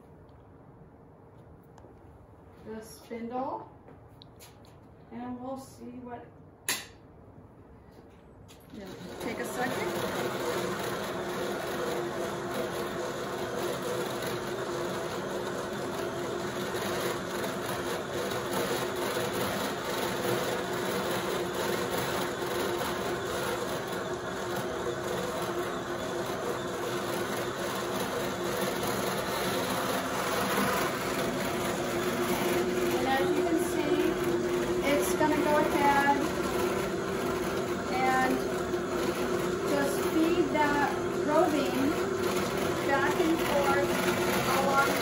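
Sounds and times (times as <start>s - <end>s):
carding machine humming: 8.8s - 45.0s.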